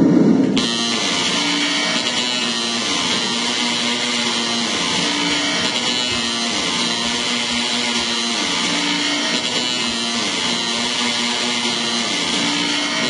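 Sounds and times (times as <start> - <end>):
loud music: 0.6 - 13.0.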